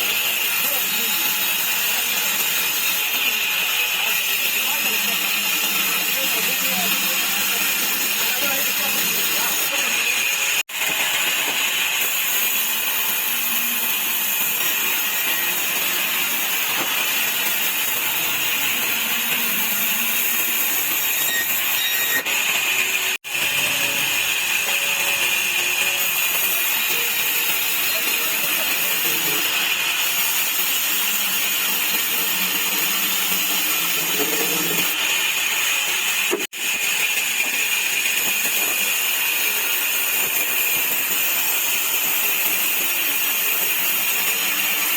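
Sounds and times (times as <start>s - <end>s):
sawmill saw whining: 0.0s - 44.9s.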